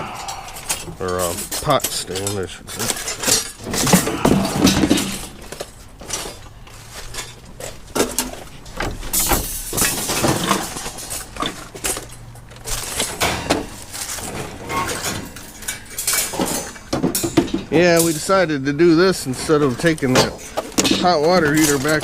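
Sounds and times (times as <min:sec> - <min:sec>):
scrap metal clanking: 0:00.0 - 0:22.0.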